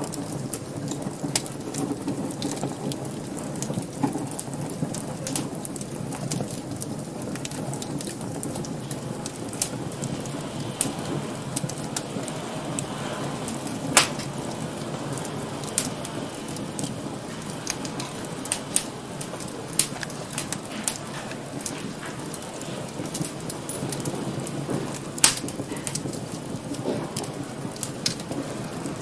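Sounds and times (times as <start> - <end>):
fire crackling and popping: 0.0 - 29.0
wood fire flames rushing: 0.0 - 29.0.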